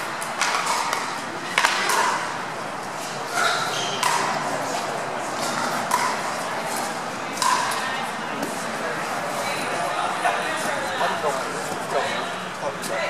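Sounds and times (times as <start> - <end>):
voices in echoing hall: 0.0 - 13.0.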